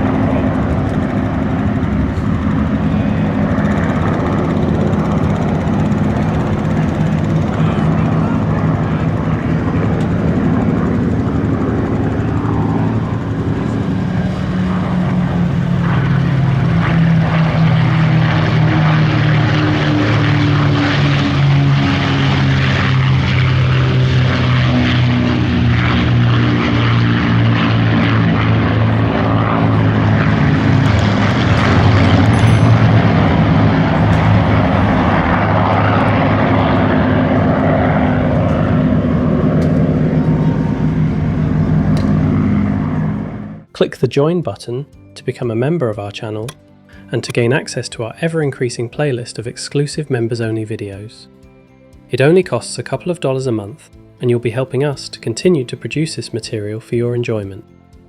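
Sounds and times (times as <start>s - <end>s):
propeller aircraft engines droning: 0.0s - 58.0s.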